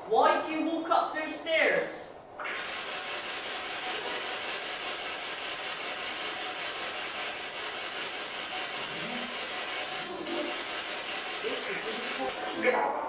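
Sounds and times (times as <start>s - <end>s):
radio static sweeping stations: 2.4s - 12.9s.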